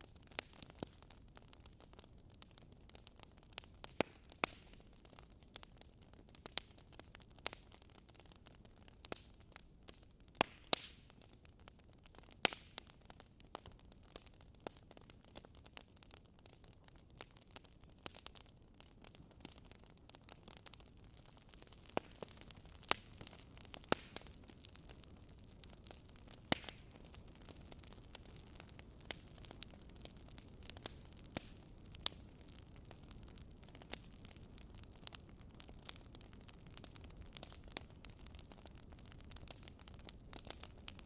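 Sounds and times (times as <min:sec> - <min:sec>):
firewood crackling and popping: 0:00.0 - 0:41.0
soft steady hiss: 0:00.0 - 0:41.0.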